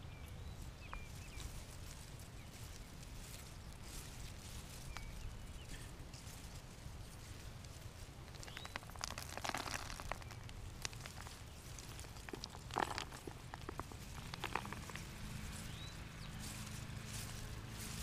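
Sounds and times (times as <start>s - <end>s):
leaves rustling: 0.0s - 18.0s
roots and soil crackling: 0.0s - 18.0s.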